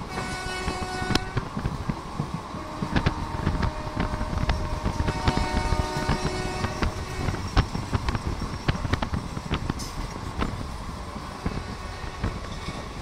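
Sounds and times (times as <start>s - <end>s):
train wheels rumbling and clattering: 0.0s - 13.0s.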